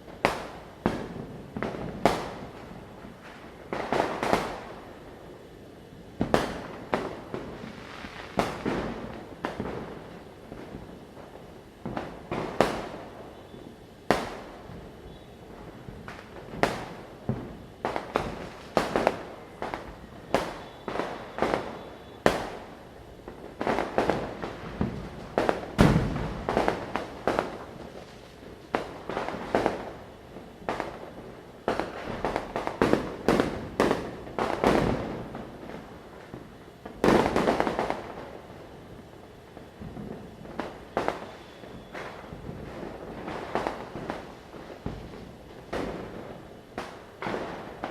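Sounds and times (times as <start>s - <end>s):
firecrackers banging: 6.2s - 11.2s, 11.8s - 38.5s, 39.5s - 47.9s.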